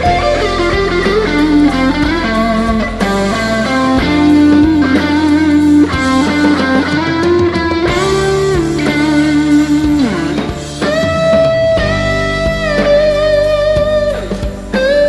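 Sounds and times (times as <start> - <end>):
overdriven electric guitar lead: 0.0 - 15.0.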